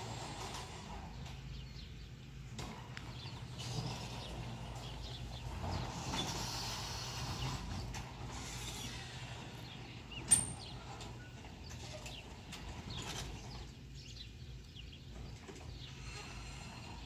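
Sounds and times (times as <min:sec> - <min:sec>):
garage door opener running: 0:00.0 - 0:14.1.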